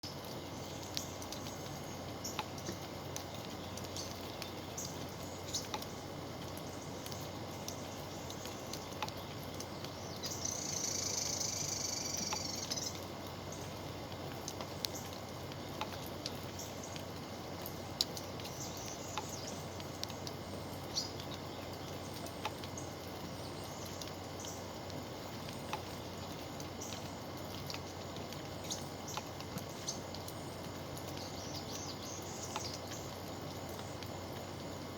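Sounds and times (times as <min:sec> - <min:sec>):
steady outdoor hiss: 0:00.0 - 0:34.9
small ticks: 0:00.1 - 0:34.9.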